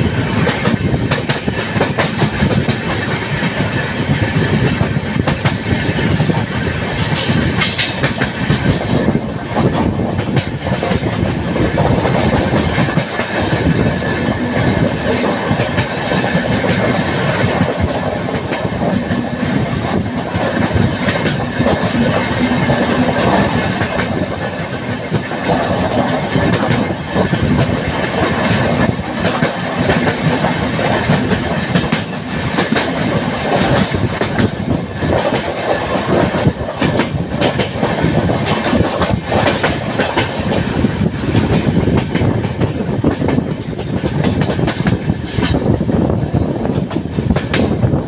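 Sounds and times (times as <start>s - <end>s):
wheels clacking over rail joints: 0.0s - 47.8s
train wheels rumbling on rail: 0.0s - 48.0s.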